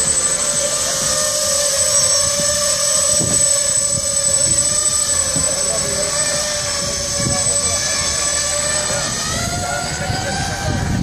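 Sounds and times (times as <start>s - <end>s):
quadcopter buzzing whine: 0.0s - 11.0s.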